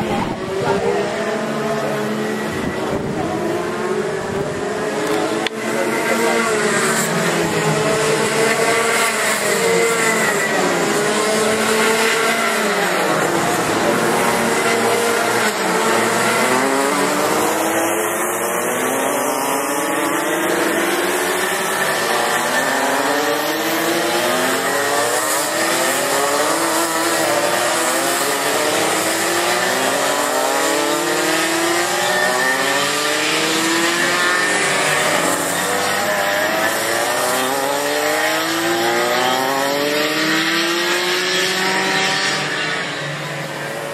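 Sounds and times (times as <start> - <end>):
racing kart engines: 0.0 - 43.9.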